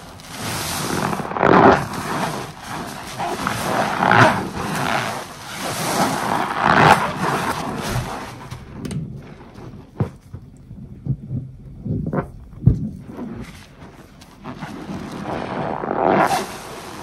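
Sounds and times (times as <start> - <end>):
sponge squelching in suds: 0.0 - 10.3, 12.5 - 17.0.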